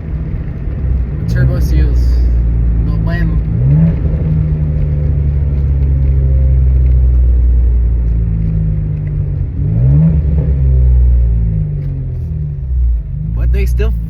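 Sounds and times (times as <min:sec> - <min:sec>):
loud car exhaust under load: 0:00.0 - 0:14.0.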